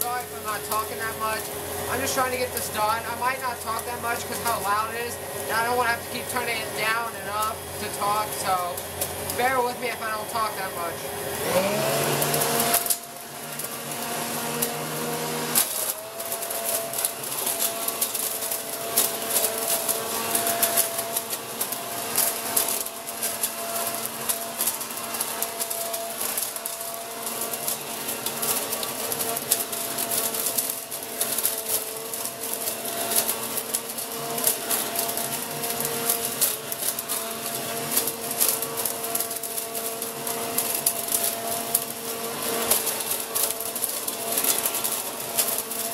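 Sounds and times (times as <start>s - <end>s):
leaf vacuum motor whine: 0.0s - 45.9s
leaves crackling being shredded: 0.0s - 45.9s.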